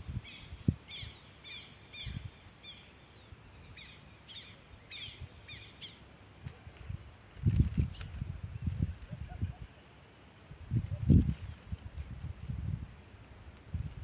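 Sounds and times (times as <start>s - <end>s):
small bird chirping: 0.2s - 12.9s.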